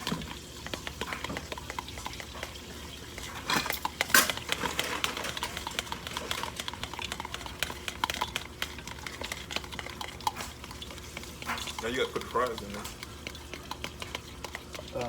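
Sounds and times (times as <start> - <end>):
oil crackling in a frying pan: 0.0 - 15.0.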